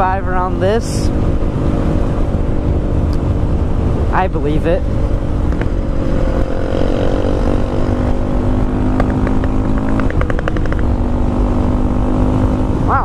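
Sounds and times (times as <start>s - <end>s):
motorcycle engine running: 0.0s - 13.0s
wind rumble: 0.0s - 13.0s.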